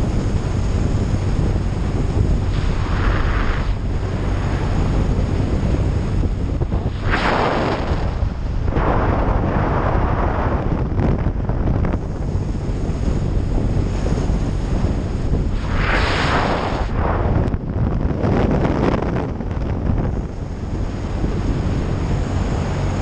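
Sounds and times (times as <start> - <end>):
motorcycle engine and tyres drone: 0.0 - 23.0
wind rushing over microphone: 0.0 - 23.0.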